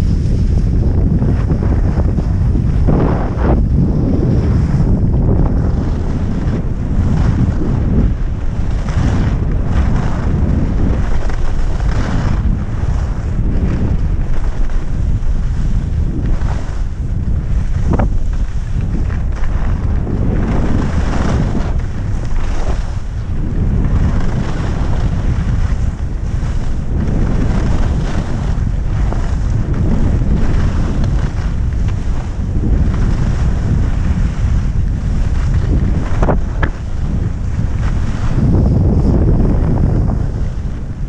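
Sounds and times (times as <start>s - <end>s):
skis scraping on snow: 0.0s - 41.0s
wind buffeting microphone: 0.0s - 41.0s.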